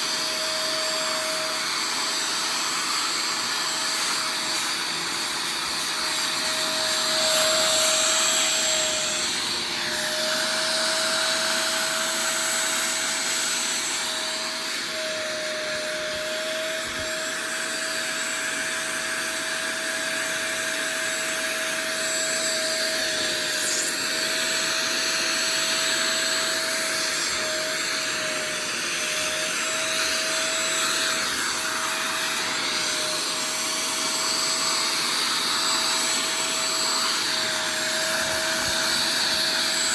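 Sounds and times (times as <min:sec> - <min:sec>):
suction motor whine: 0:00.0 - 0:39.9.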